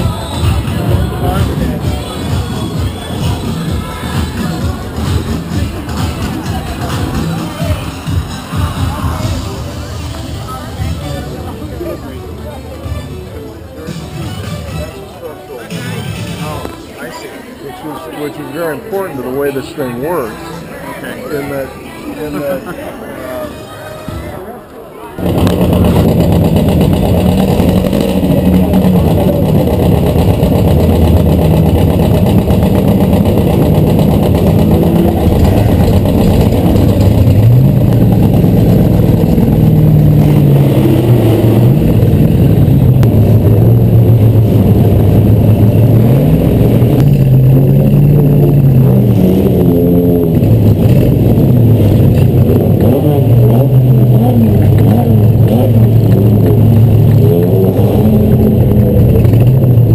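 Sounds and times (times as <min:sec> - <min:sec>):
car engine idling and revving: 0:00.0 - 0:14.8, 0:25.2 - 0:59.9.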